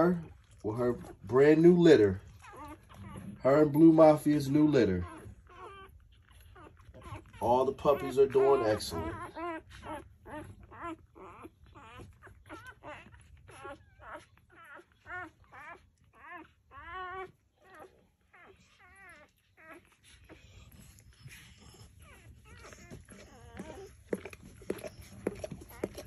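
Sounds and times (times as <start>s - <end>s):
puppies squeaking and whimpering: 0.0s - 26.0s.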